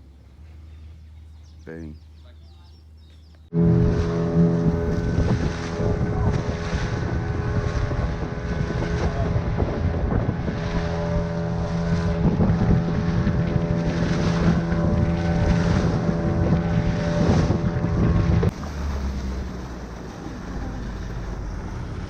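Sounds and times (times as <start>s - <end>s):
small boat motor running: 2.8s - 22.0s
wind buffeting microphone: 3.5s - 22.0s.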